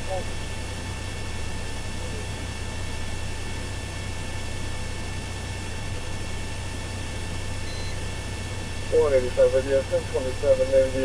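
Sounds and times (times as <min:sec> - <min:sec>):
faint whining tones: 0:00.0 - 0:11.0
low electrical hum: 0:00.0 - 0:11.0
radio static hiss: 0:00.0 - 0:11.0.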